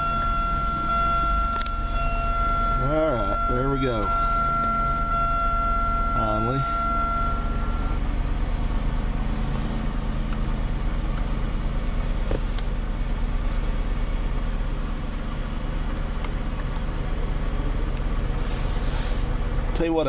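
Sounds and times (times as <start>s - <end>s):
car engine idling hum: 0.0s - 20.0s.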